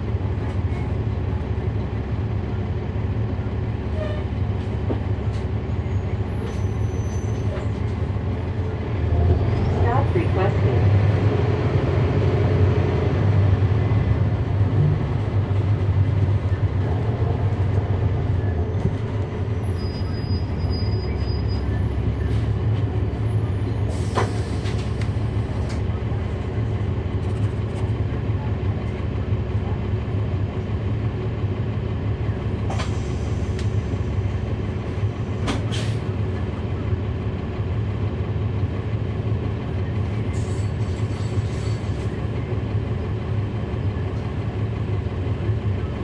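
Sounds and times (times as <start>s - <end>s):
bus diesel engine droning: 0.0s - 46.0s.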